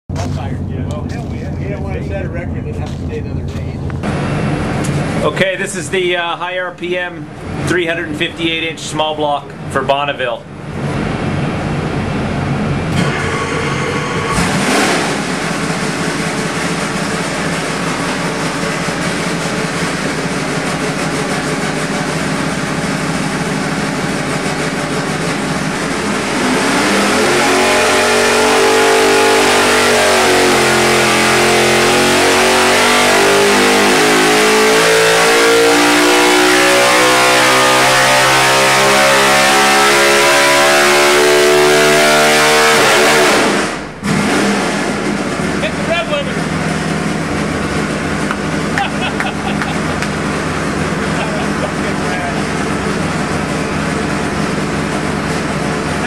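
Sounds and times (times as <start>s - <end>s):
race engine revving under load: 10.5s - 56.0s.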